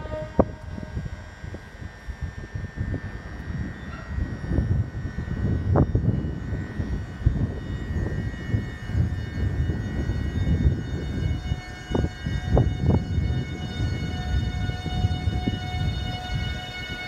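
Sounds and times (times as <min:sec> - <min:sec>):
diesel locomotive rumble and whine: 0:00.0 - 0:17.0.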